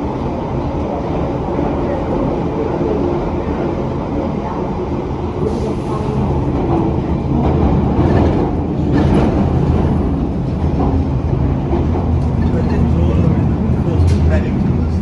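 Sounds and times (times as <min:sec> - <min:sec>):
underground train rumbling: 0:00.0 - 0:15.0.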